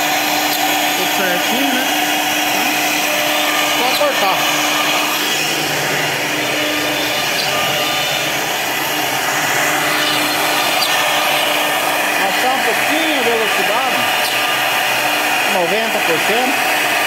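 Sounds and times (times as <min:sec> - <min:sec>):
router spindle drilling plywood: 0:00.0 - 0:17.0.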